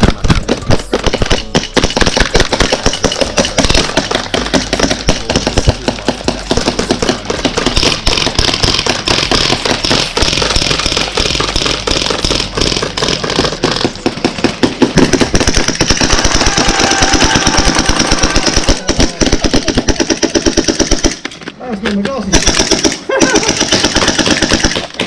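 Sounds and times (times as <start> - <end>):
airsoft guns firing on full auto: 0.0 - 21.5, 22.3 - 25.0.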